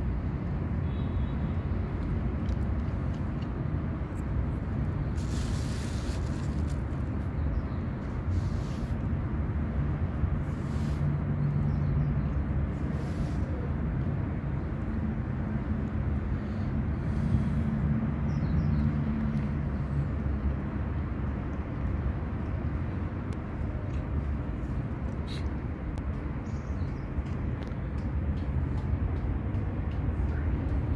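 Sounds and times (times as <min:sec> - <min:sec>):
distant street traffic rumble: 0:00.0 - 0:30.9.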